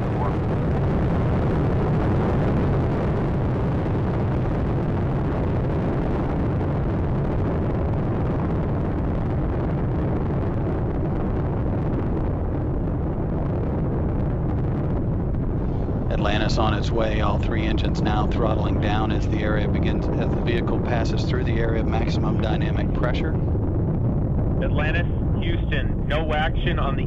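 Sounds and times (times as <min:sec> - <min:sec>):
rocket exhaust rumble: 0:00.0 - 0:27.0.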